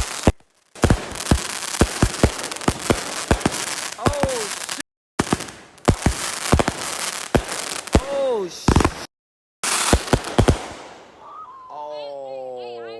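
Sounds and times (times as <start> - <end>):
firework cake bangs: 0.0 - 11.2.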